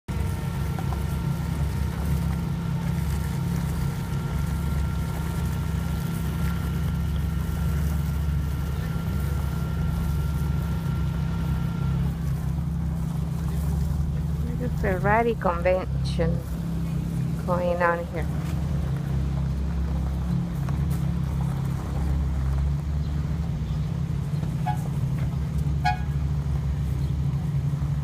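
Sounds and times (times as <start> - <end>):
car engine idling: 0.0 - 28.0
faint steady whine: 0.1 - 28.0.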